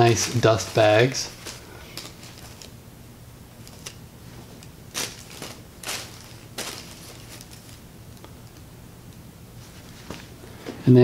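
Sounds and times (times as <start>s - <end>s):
cloth bags and tissue paper rustling: 0.0s - 2.8s, 3.6s - 8.6s, 9.6s - 10.6s.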